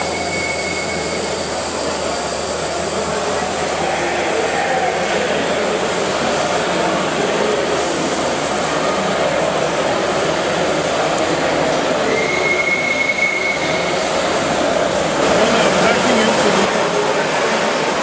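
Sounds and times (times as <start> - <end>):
thin high whine: 0.0 - 16.7
model steam locomotive running: 0.0 - 18.0.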